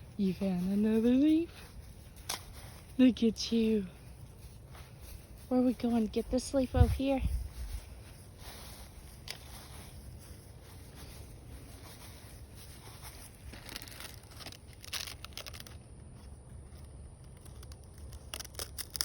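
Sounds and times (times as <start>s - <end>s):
dry leaves crinkling: 0.0s - 19.0s
steady low rumble: 0.0s - 19.0s.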